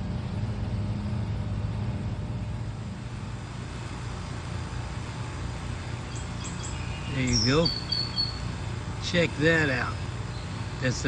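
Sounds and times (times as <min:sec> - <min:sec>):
low motor hum: 0:00.0 - 0:11.0
outdoor background noise: 0:00.0 - 0:11.0.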